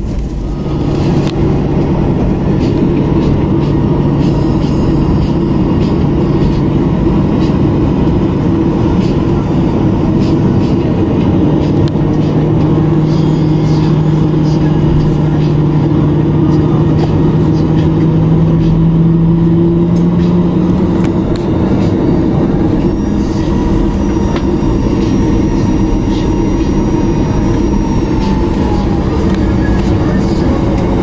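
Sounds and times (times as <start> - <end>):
jet engines rumbling: 0.0 - 31.0
strong low hum: 0.0 - 31.0.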